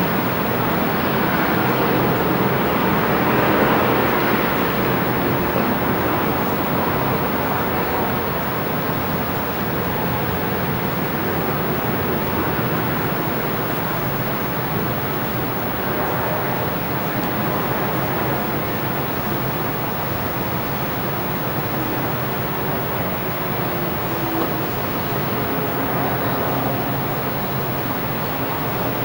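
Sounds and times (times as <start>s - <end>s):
idling vehicles and traffic rumble: 0.0s - 29.0s.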